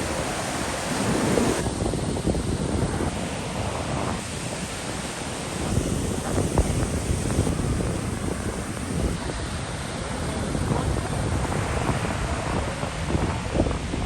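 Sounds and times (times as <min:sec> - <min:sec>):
ocean surf washing on beach: 0:00.0 - 0:14.0
wind buffeting microphone: 0:00.0 - 0:14.0.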